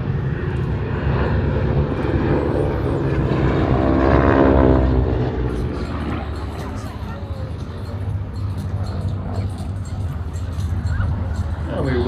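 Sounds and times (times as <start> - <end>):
propeller aircraft droning: 0.0 - 12.0.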